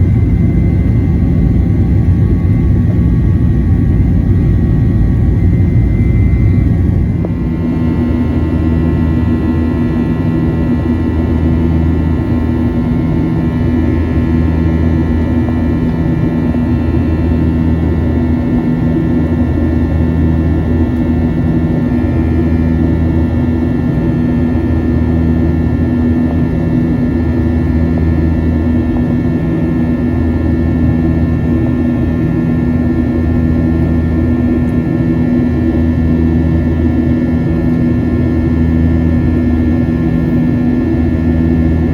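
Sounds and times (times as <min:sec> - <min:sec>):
jet engines droning in cabin: 0:00.0 - 0:41.9.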